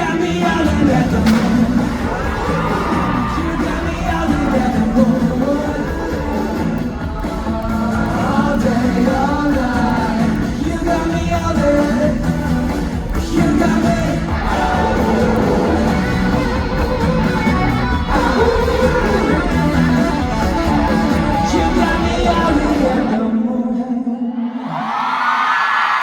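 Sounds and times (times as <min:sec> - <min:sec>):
loud backing band: 0:00.0 - 0:23.3
man singing: 0:00.0 - 0:24.8.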